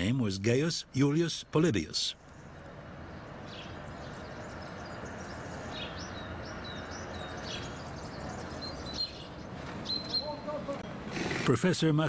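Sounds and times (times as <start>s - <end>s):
small birds chirping: 0.0s - 11.6s
open-air ambience hiss: 0.0s - 12.0s.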